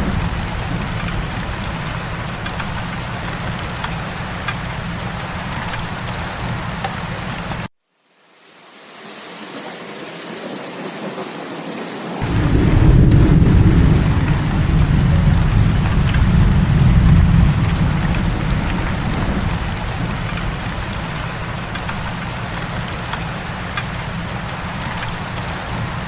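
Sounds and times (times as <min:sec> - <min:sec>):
heavy rain: 0:00.0 - 0:07.7, 0:08.4 - 0:26.0
raindrop ticks: 0:00.0 - 0:07.7, 0:12.2 - 0:26.0.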